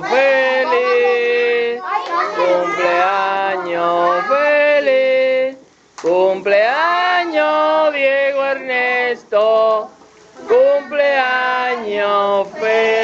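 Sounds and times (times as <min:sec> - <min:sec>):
group singing birthday song: 0:00.0 - 0:13.0.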